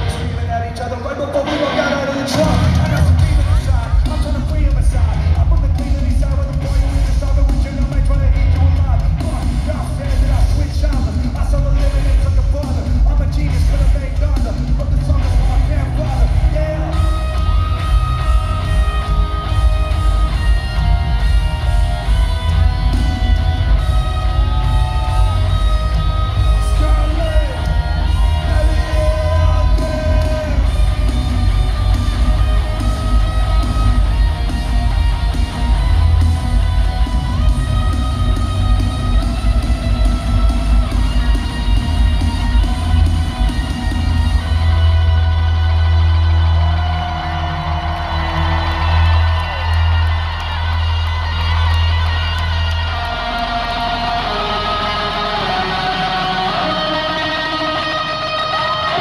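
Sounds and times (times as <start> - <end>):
distorted electric guitars: 0.0 - 59.0
drums: 0.0 - 59.0
heavy bass: 0.0 - 59.0
live rock band playing loudly: 0.0 - 59.0.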